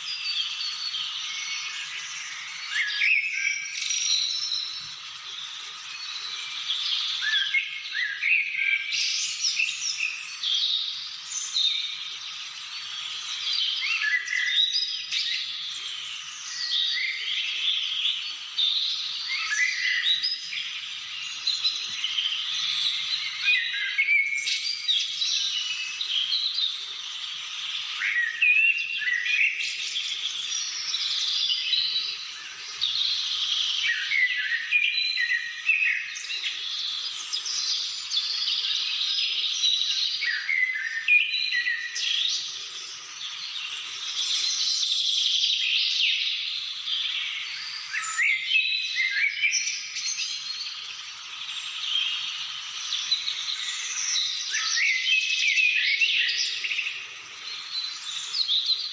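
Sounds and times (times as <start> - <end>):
birds chirping and whistling: 0.0 - 58.9.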